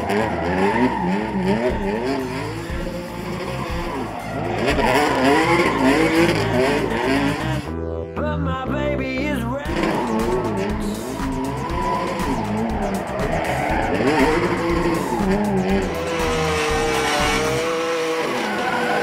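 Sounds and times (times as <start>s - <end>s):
tyres squealing on asphalt: 0.0s - 7.7s, 9.7s - 19.0s
car engine revving: 0.0s - 7.9s, 9.6s - 19.0s.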